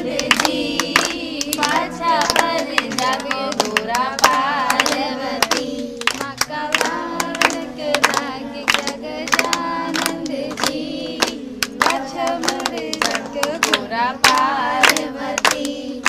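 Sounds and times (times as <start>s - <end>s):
hand claps: 0.0s - 16.0s
women and children singing: 0.0s - 16.0s.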